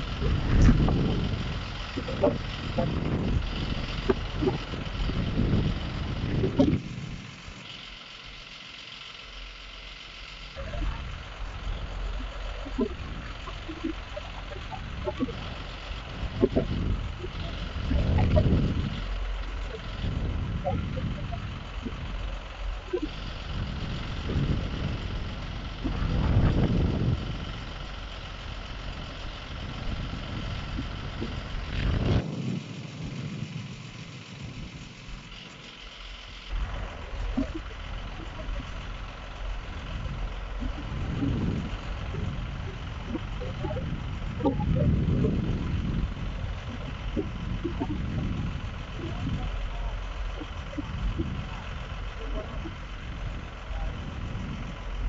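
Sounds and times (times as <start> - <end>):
hydraulic crane whine: 0.0 - 55.0
truck engine rumbling: 0.0 - 55.0.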